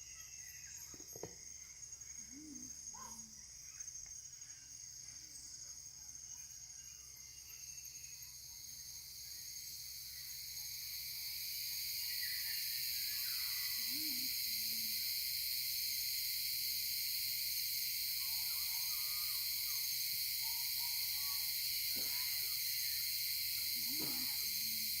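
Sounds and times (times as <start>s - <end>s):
insect chorus drone: 0.0s - 25.0s.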